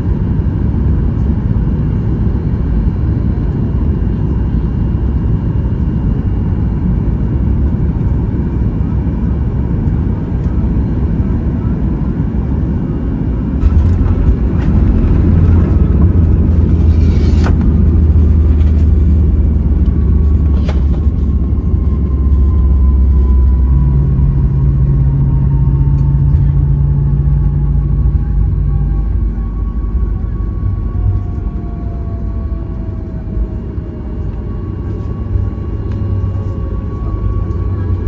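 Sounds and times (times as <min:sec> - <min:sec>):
aircraft cabin rumble: 0:00.0 - 0:38.0.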